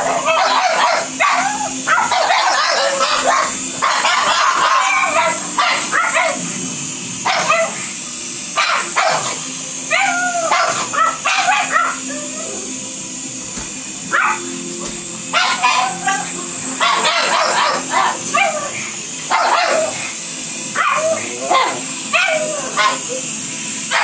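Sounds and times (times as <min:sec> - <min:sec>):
dogs barking and yipping: 0:00.0 - 0:06.6, 0:07.2 - 0:12.8, 0:14.0 - 0:24.0.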